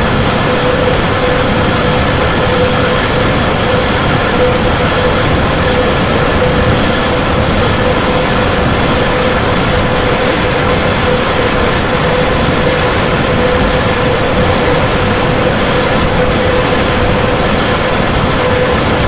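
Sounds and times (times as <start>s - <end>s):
steady droning tone: 0.0s - 19.0s.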